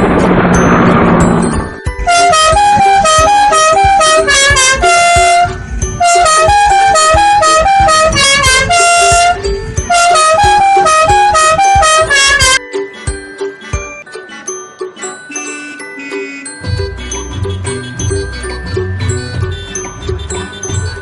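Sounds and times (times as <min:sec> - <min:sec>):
musical vehicle horn tune: 0:00.2 - 0:12.7, 0:15.4 - 0:21.0.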